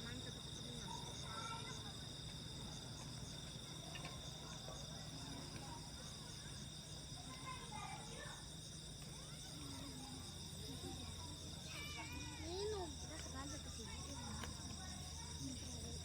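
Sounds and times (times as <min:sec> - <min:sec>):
distant voices: 0:00.0 - 0:16.0
insects trilling: 0:00.0 - 0:16.0.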